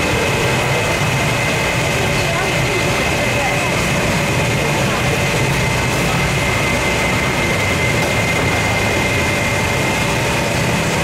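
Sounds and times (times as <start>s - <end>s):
high-pitched machine whine: 0.0s - 11.0s
machine drone with low hum: 0.0s - 11.0s.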